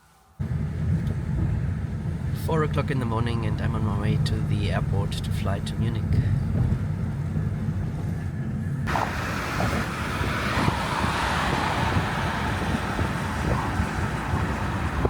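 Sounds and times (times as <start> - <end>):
vehicle rumbling on road: 0.4 - 15.0.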